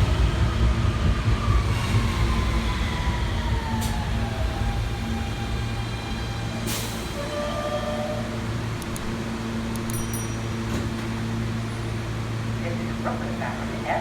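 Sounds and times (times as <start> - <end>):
train electrical hum: 0.0 - 14.0.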